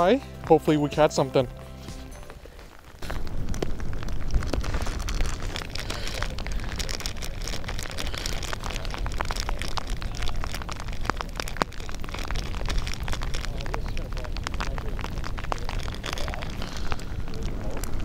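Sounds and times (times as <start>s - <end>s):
raindrops tapping: 0.0s - 18.0s
wind buffeting microphone: 2.8s - 18.0s.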